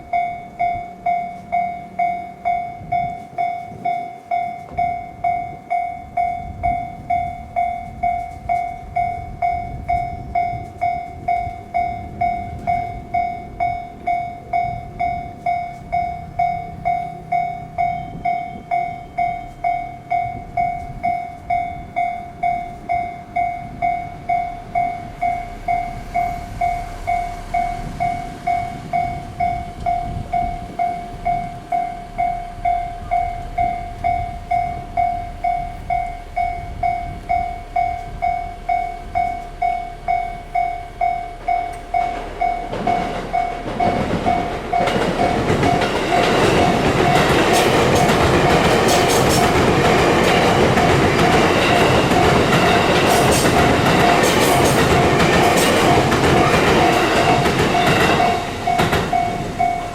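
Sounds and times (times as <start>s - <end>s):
level crossing bell clanging: 0.0s - 59.9s
train passing: 0.0s - 59.9s.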